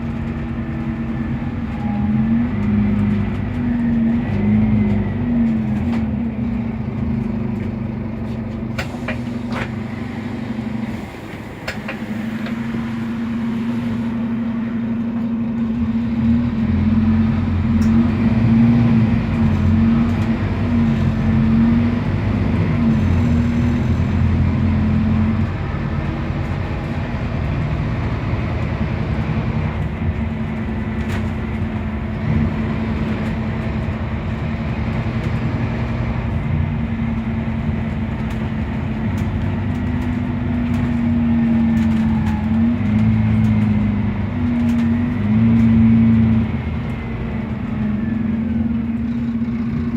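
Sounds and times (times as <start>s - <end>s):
bus engine driving: 0.0s - 49.9s.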